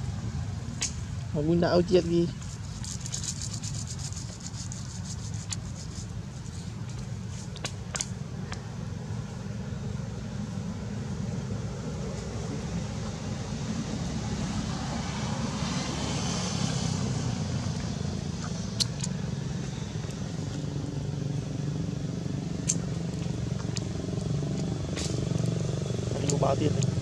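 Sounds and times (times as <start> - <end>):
engine rumble: 0.0 - 27.0.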